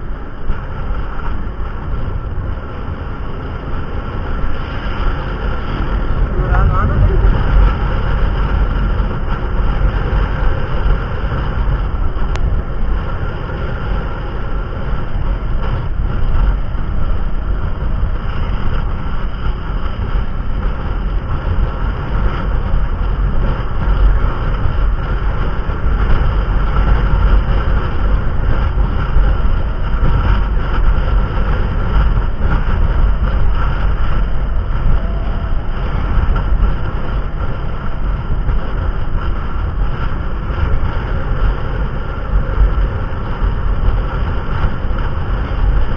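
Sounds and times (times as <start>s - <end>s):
vehicle engine and road rumble: 0.0s - 45.9s
wind buffeting microphone: 0.0s - 45.9s.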